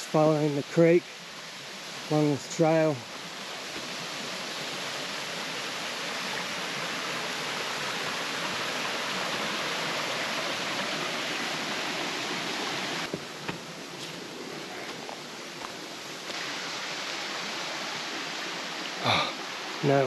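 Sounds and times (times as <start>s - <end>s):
creek rushing over rocks: 0.0s - 20.0s.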